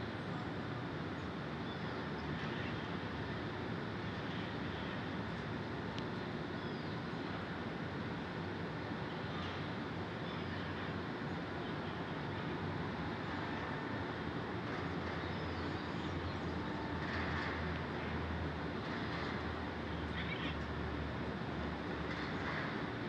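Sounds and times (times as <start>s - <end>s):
distant traffic rumble: 0.0s - 23.0s.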